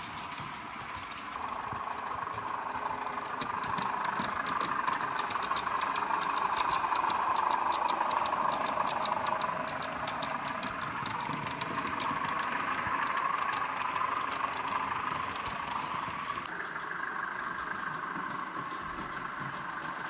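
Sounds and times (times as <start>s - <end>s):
model train engine drone: 0.0s - 20.0s
wheels clicking over rail joints: 0.0s - 20.0s.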